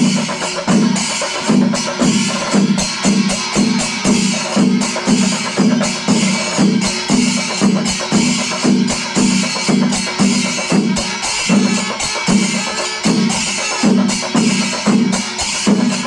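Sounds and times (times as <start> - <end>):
continuous clash of cymbals: 0.0 - 16.0
drums beaten in steady pulse: 0.0 - 16.0.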